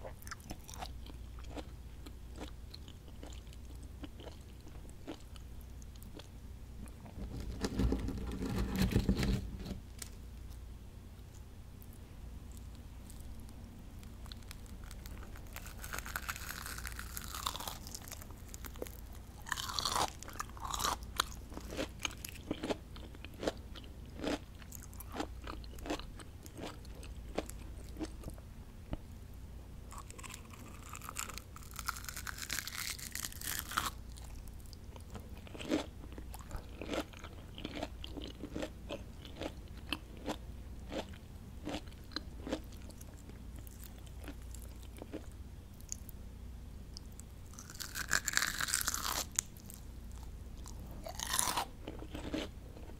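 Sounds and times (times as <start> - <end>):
crunchy food being bitten and chewed: 0.0 - 10.6, 11.2 - 29.1, 29.9 - 46.2, 46.9 - 52.9.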